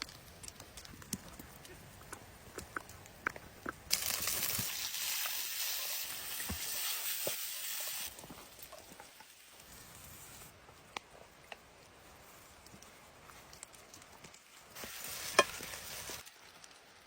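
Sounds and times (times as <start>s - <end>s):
sizzling hiss: 0.0s - 17.0s.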